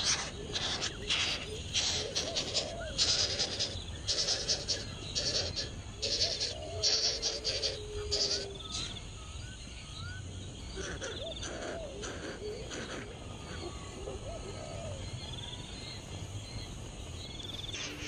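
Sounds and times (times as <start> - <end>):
baby birds calling: 0.0 - 15.1, 17.6 - 18.0.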